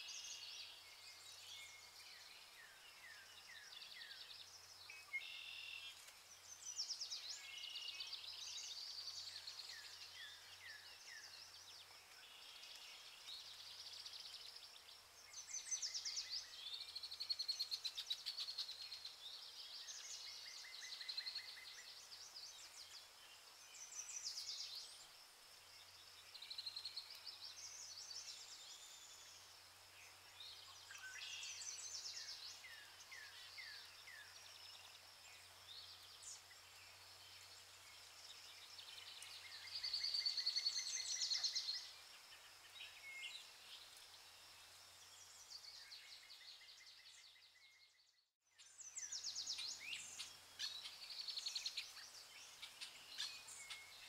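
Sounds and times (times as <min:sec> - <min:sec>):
birds chirping and singing: 0:00.0 - 0:25.1, 0:25.8 - 0:44.1, 0:45.0 - 0:54.0.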